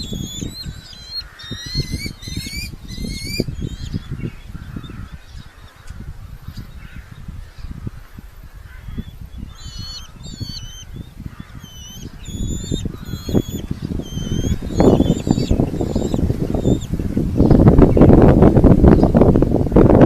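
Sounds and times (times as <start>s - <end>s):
falcons calling: 0.0s - 17.6s.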